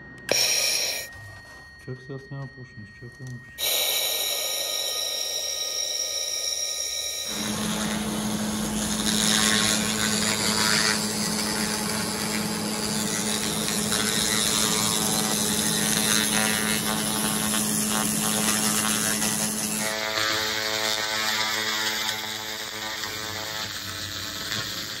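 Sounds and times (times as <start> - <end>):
laser machine humming and hissing: 0.3 - 1.2, 3.6 - 25.0.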